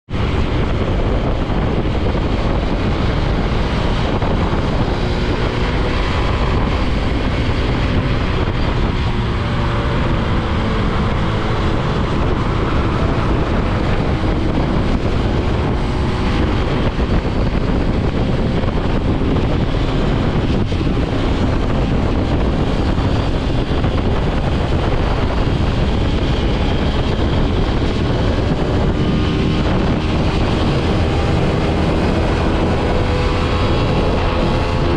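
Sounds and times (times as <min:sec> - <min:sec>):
motorcycle engine revving: 0:00.1 - 0:34.9
wind rush on microphone: 0:00.1 - 0:34.9.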